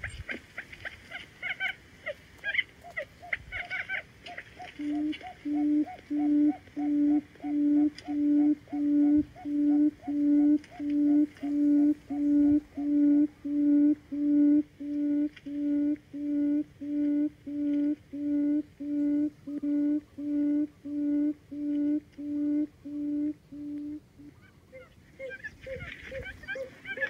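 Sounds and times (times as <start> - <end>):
buttonquail hooting: 1.1 - 27.0.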